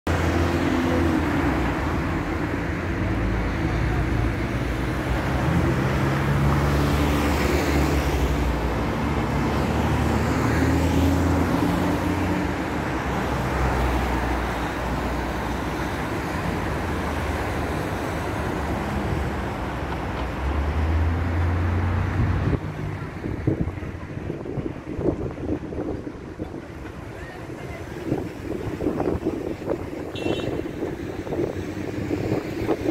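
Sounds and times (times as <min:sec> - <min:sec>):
cars driving past: 0:00.1 - 0:32.9.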